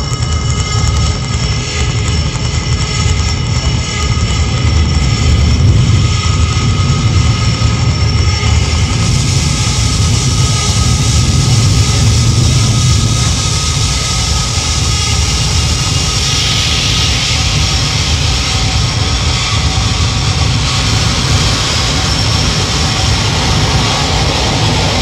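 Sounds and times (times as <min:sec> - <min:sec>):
electronic drone music: 0:00.0 - 0:25.0.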